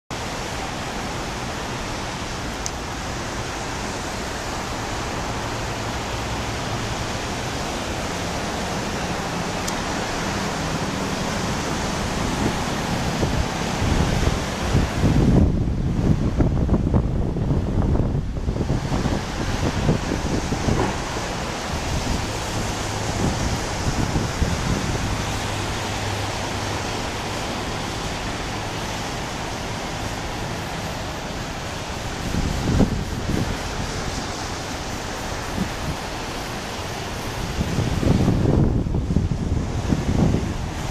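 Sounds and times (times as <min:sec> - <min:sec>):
distant jet roar: 0:00.1 - 0:40.9
steady rushing noise: 0:00.1 - 0:40.9
wind buffeting microphone: 0:00.2 - 0:40.9.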